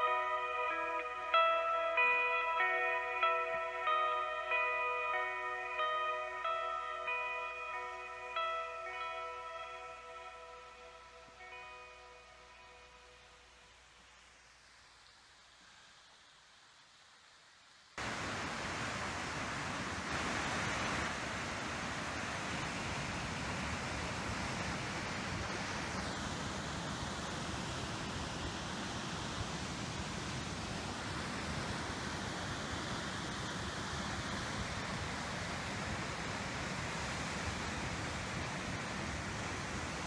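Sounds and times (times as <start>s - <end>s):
waterfall rushing: 0.0s - 13.2s, 18.0s - 40.0s.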